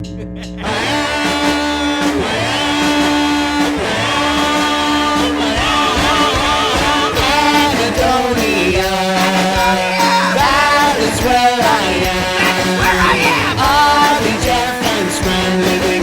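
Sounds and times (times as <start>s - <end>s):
rock music with guitar: 0.6s - 16.0s.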